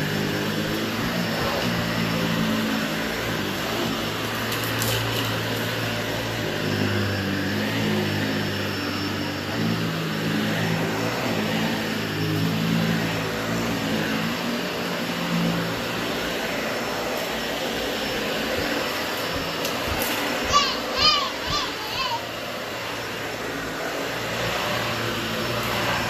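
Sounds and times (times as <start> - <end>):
vacuum cleaner on carpet: 0.0 - 26.0.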